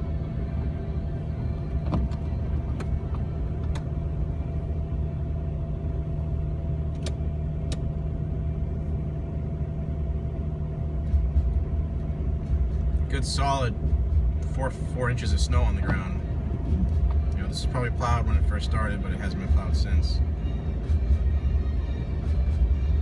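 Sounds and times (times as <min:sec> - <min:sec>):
car engine and drivetrain hum: 0:00.0 - 0:23.0.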